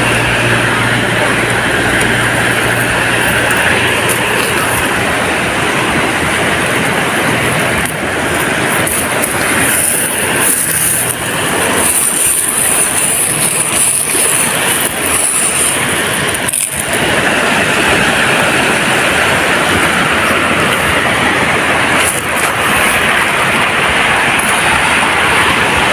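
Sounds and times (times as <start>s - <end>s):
waves breaking on a beach: 0.0s - 25.9s.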